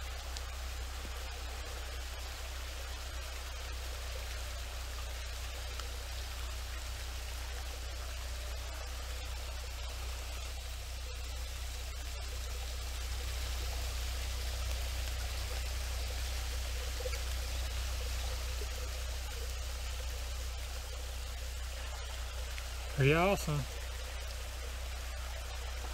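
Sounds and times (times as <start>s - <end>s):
small waterfall pouring: 0.0s - 25.9s.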